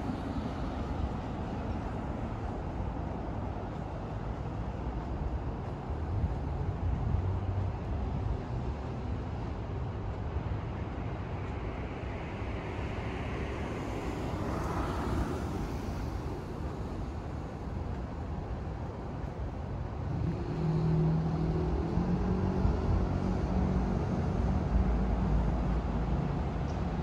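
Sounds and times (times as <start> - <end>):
low traffic rumble: 0.0 - 27.0.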